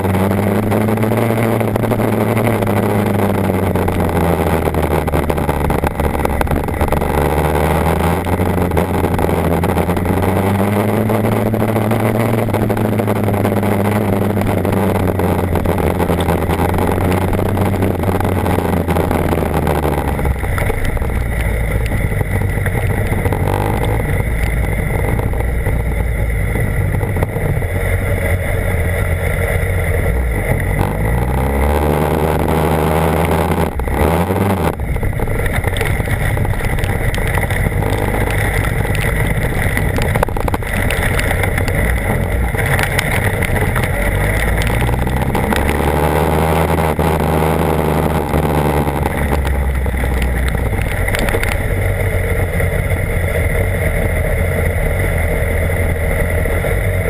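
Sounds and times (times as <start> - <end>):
motorcycle engine running: 0.0 - 57.0
steady rushing noise: 0.0 - 57.0.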